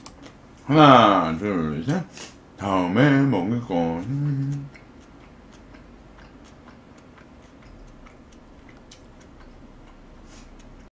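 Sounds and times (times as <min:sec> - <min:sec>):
low room hum: 0:00.0 - 0:10.9.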